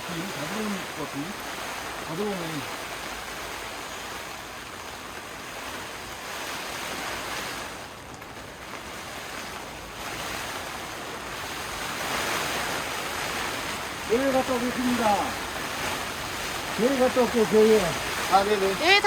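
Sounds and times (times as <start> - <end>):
heavy rain on a tent: 0.0 - 19.0
strong wind gusting: 0.0 - 19.0.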